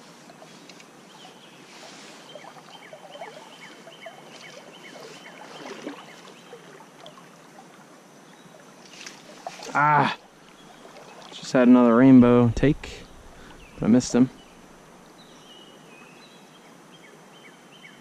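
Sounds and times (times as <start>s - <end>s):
creek water flowing: 0.0s - 15.9s.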